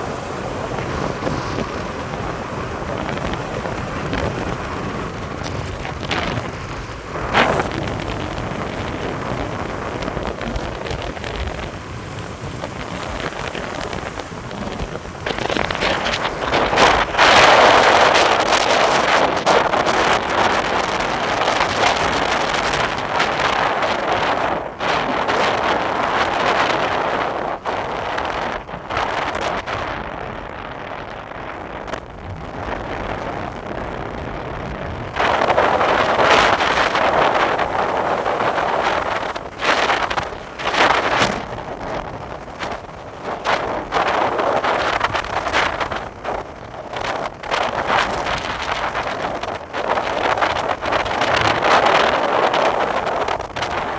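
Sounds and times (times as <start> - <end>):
road noise: 0.0 - 53.9
wind buffeting microphone: 0.0 - 53.9.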